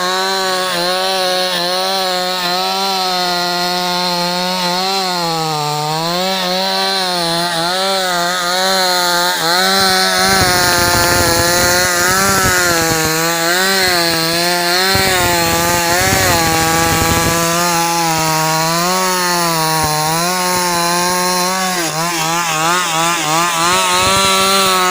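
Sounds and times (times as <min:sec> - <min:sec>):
chain cutting through wood: 0:00.0 - 0:24.9
chainsaw running at high revs: 0:00.0 - 0:24.9.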